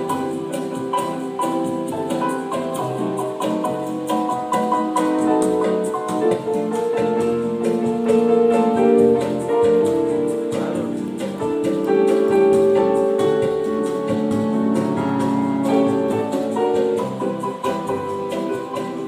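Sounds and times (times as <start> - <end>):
keyboard chords and melody: 0.0 - 19.0.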